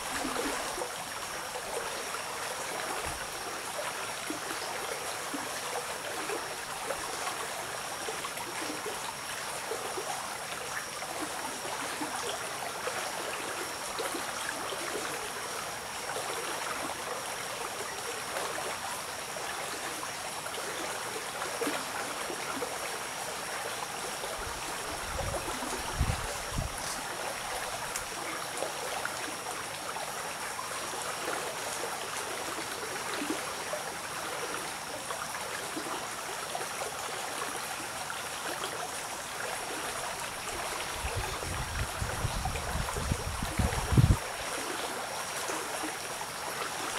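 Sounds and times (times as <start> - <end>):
stream flowing over its bed: 0.0 - 46.9.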